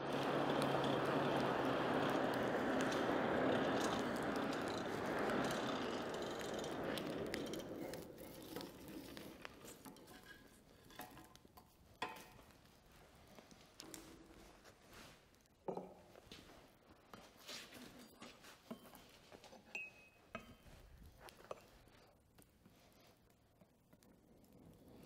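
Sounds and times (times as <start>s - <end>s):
fire crackling: 0.0s - 19.4s, 20.4s - 25.0s.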